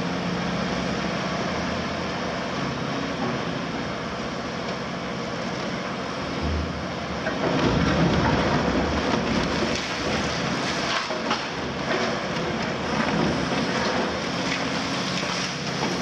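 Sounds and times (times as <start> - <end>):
excavator diesel engine: 0.0 - 16.0.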